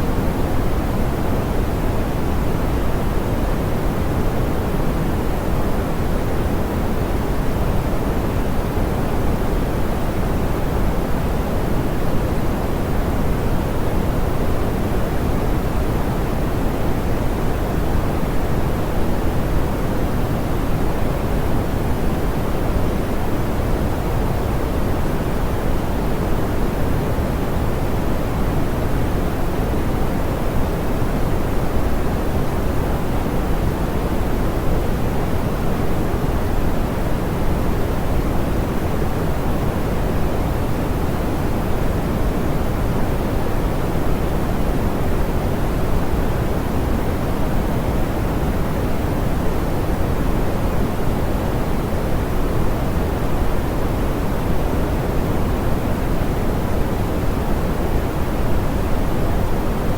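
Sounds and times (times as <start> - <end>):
soft pink noise hiss: 0.0 - 59.9.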